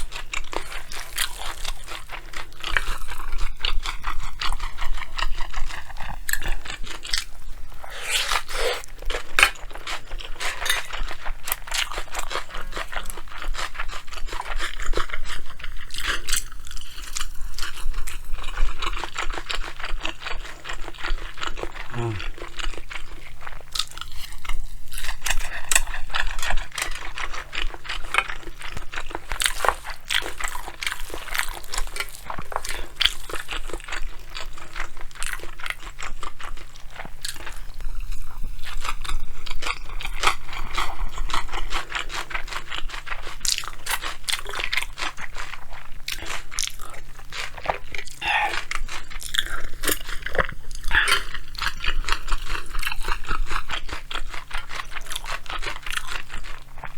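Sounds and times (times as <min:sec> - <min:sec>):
chewing and crunching food: 0:00.0 - 0:56.9.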